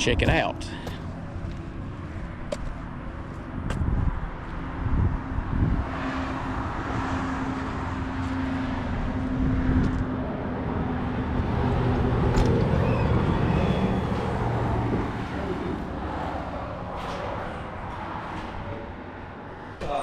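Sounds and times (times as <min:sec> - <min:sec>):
tyre and road noise: 0:00.0 - 0:20.0
vehicle engines running: 0:00.0 - 0:20.0
deep engine hum: 0:00.6 - 0:17.9.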